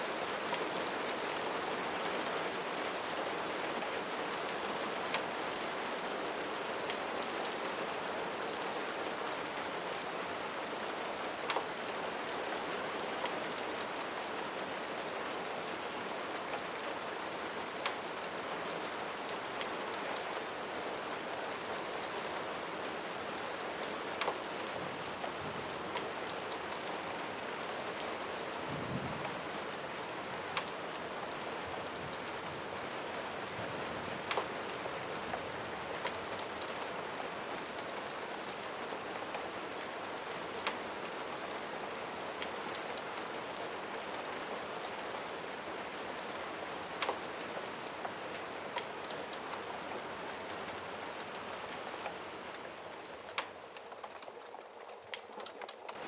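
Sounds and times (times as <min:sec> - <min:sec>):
dense rain falling: 0:00.0 - 0:56.0.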